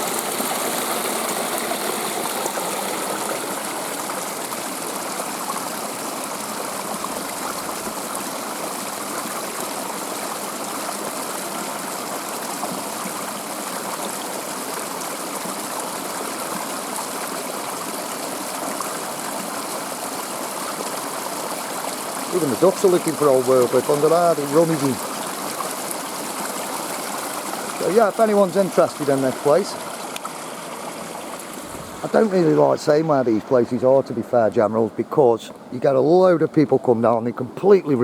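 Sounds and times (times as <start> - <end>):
stream water rushing: 0.0 - 38.0.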